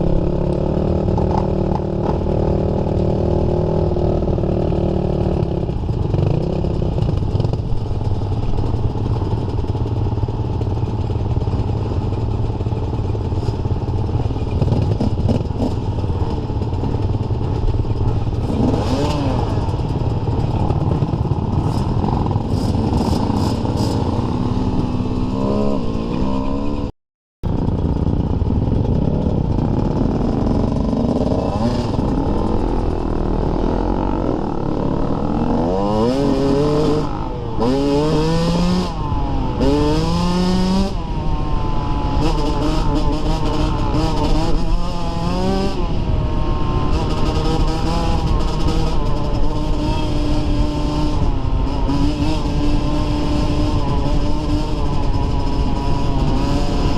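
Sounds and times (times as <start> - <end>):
dirt bike engine revving: 9.0 - 26.9, 27.5 - 56.9.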